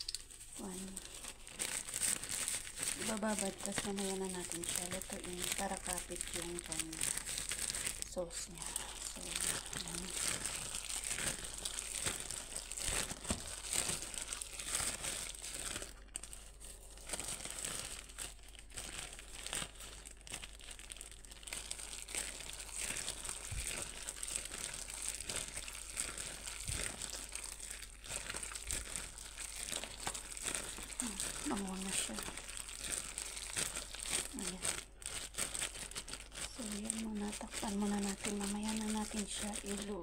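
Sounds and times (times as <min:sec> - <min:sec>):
plastic bag glove crinkling: 0:00.0 - 0:40.0.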